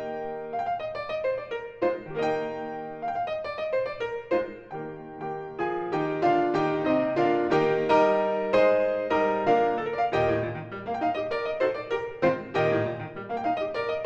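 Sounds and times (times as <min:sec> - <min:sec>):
solo classical piano: 0:00.0 - 0:14.0.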